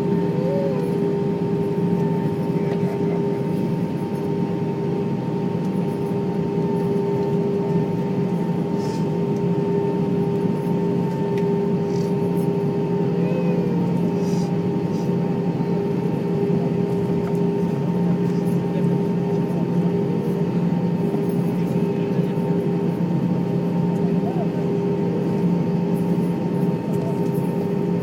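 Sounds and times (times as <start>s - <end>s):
jet engine hum in cabin: 0.0s - 28.0s.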